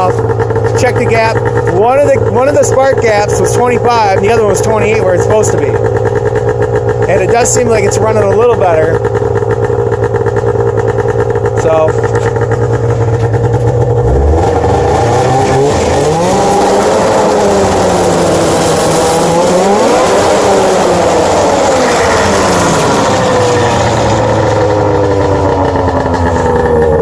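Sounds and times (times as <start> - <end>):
snowmobile engine revving: 0.0 - 27.0.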